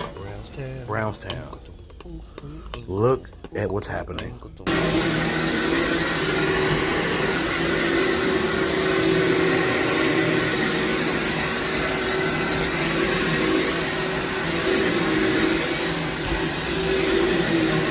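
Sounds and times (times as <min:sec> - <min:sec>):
vacuum cleaner running: 0:00.0 - 0:03.2, 0:04.6 - 0:17.9.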